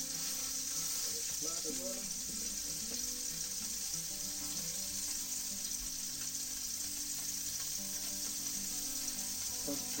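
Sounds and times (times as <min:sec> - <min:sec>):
fish sizzling in a pan: 0:00.0 - 0:10.0.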